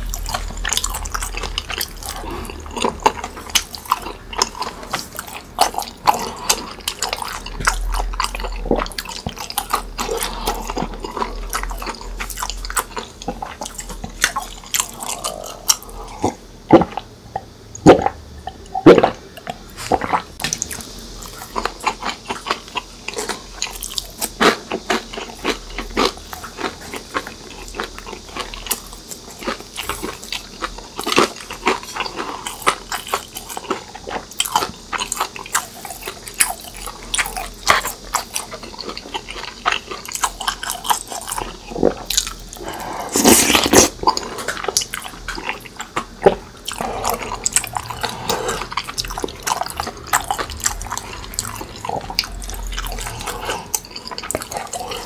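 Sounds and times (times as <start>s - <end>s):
wet chewing and swallowing: 0.0s - 55.0s.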